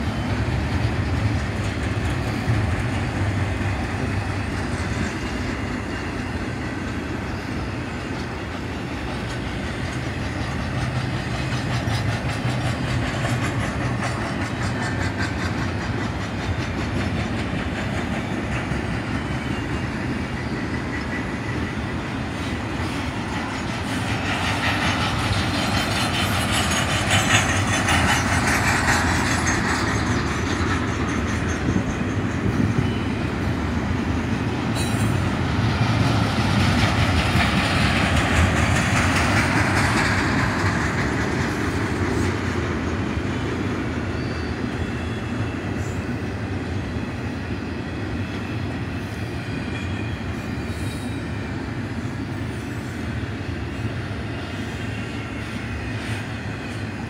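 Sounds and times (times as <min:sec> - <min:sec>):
freight train wheels clattering on rails: 0:00.0 - 0:57.0.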